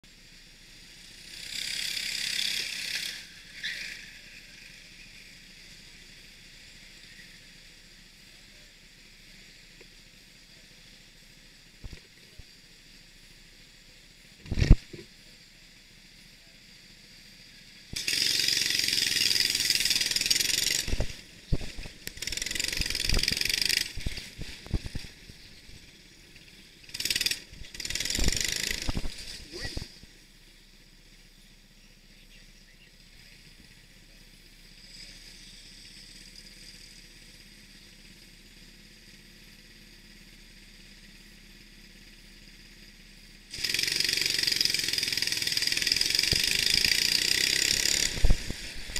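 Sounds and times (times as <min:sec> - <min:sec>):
racing kart engine: 0:00.3 - 0:12.6, 0:16.8 - 0:31.8, 0:33.0 - 0:48.9.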